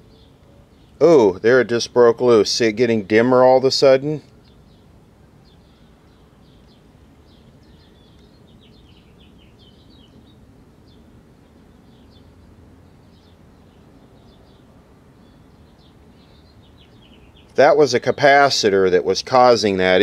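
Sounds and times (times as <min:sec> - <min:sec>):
faint small birds chirping: 0:00.0 - 0:20.0.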